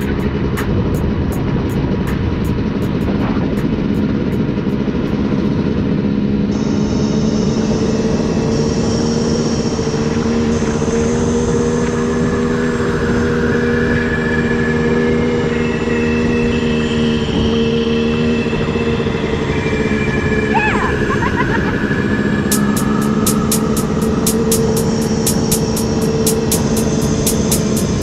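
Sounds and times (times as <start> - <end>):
two-stroke dirt bike engine cruising: 0.0 - 28.0.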